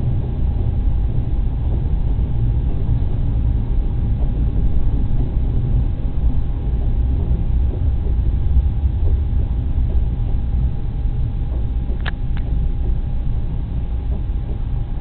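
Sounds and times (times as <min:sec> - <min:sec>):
train boxcars rumbling: 0:00.0 - 0:15.0.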